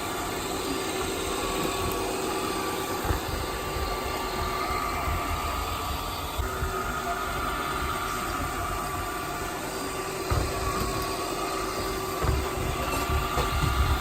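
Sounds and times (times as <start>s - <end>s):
robot vacuum bumping: 0.0s - 14.0s
robot vacuum whirring: 0.0s - 14.0s.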